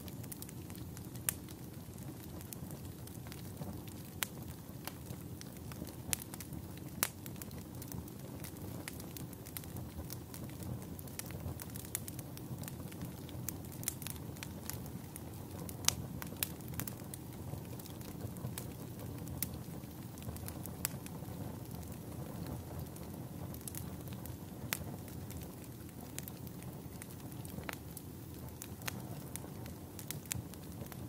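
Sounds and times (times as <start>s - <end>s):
campfire flame rumble: 0.0s - 31.0s
fire crackling and popping: 0.0s - 31.0s.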